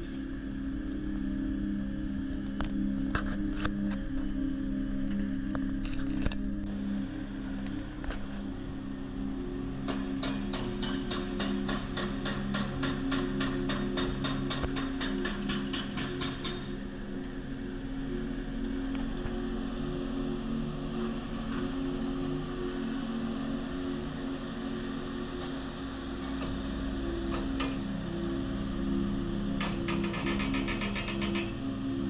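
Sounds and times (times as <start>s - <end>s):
excavator engine drone: 0.0s - 32.0s.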